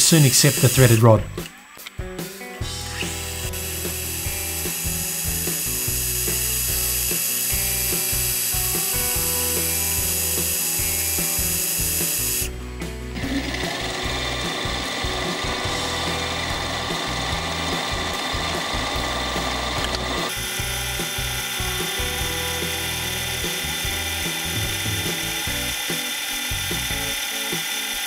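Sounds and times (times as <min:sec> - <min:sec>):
drill boring into spinning brass: 0:00.0 - 0:01.2, 0:02.6 - 0:12.5, 0:13.2 - 0:28.0
lathe cutting tool on brass: 0:02.8 - 0:12.5, 0:13.3 - 0:28.0.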